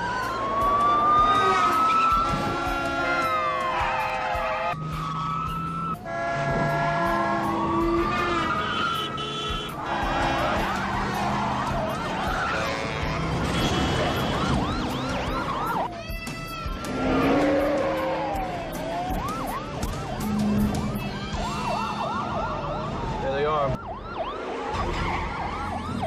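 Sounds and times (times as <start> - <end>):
car engine and tyre noise: 0.0 - 26.0
police sirens wailing: 0.0 - 26.0.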